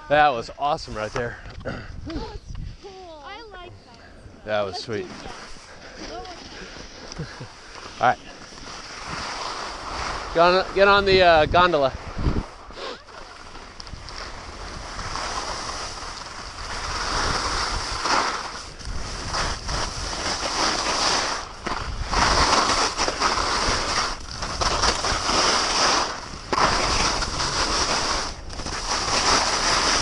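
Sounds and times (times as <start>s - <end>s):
skis scraping over snow: 0.0s - 1.4s, 4.5s - 30.0s
wind buffeting microphone: 1.2s - 7.0s, 8.4s - 30.0s.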